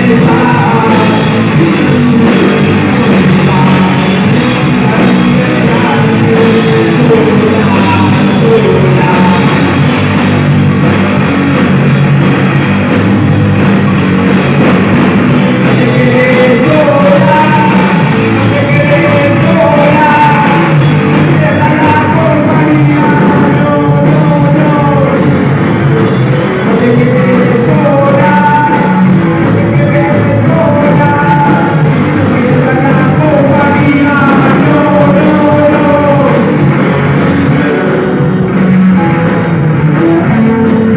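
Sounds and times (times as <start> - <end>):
lead voice singing: 0.0 - 40.9
rock band playing: 0.0 - 40.9.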